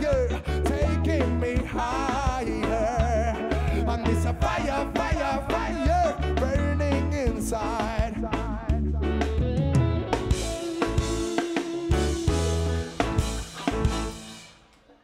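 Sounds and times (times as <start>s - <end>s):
person singing: 0.0s - 13.0s
reggae band playing: 0.0s - 15.0s.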